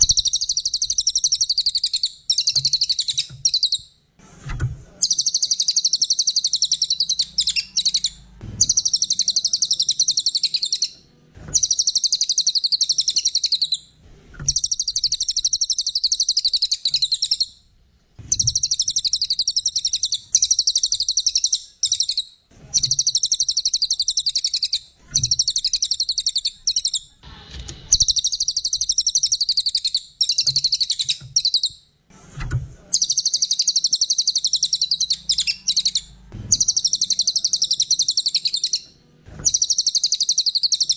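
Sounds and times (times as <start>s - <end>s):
songbird trilled chatter: 0.0s - 3.9s, 5.0s - 11.0s, 11.6s - 13.8s, 14.5s - 17.5s, 18.3s - 27.1s, 27.9s - 31.8s, 33.0s - 38.8s, 39.4s - 40.9s.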